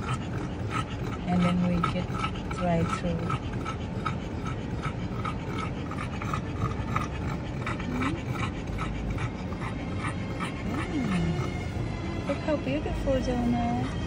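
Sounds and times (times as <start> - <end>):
dog panting quickly: 0.0 - 14.0.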